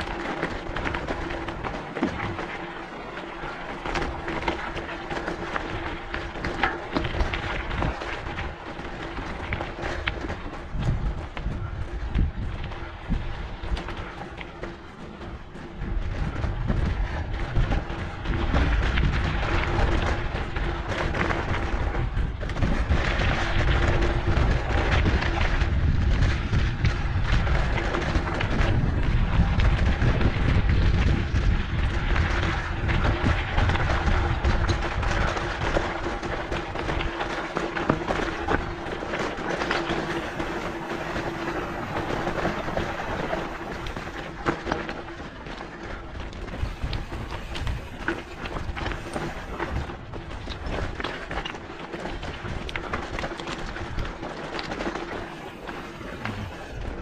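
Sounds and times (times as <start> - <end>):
mountain bike rattling on dirt trail: 0.0 - 57.0
wind buffeting microphone: 0.0 - 57.0.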